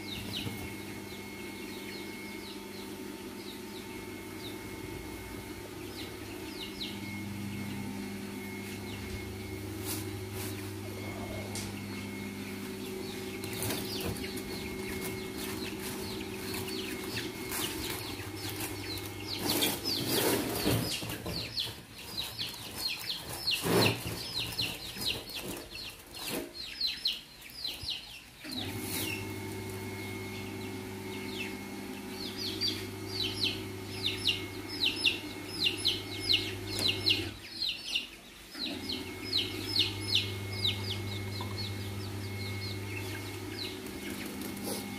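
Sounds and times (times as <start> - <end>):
steady low hum: 0.0 - 21.8, 28.7 - 37.4, 38.6 - 44.9
chicks peeping: 0.0 - 44.9.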